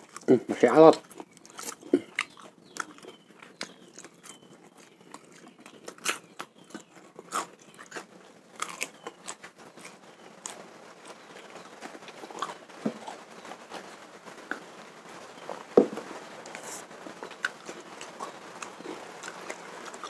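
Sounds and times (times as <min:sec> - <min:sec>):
wet chewing of raw fish: 0:01.0 - 0:13.9, 0:15.4 - 0:20.0.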